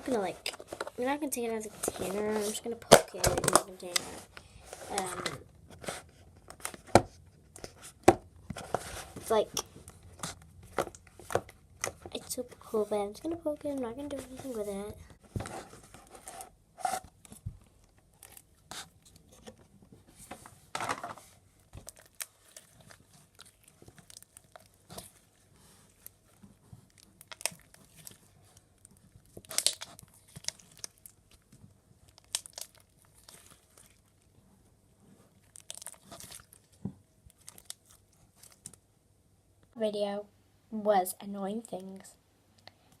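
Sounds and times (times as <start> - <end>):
slime squishing and crackling: 0.0 - 19.8, 21.2 - 38.8.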